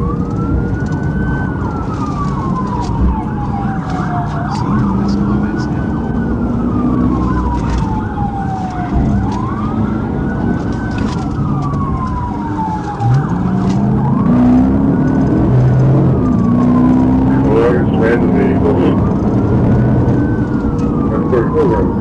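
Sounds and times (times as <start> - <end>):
police siren wailing: 0.0 - 22.0
road noise: 0.0 - 22.0
car engine accelerating: 3.5 - 22.0.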